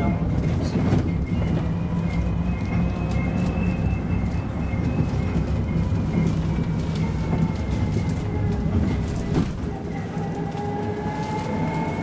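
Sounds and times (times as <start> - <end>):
bus road rumble: 0.0 - 12.0.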